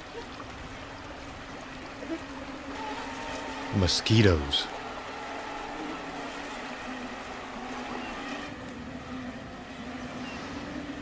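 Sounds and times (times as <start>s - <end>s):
mosquitoes buzzing: 1.8s - 11.0s.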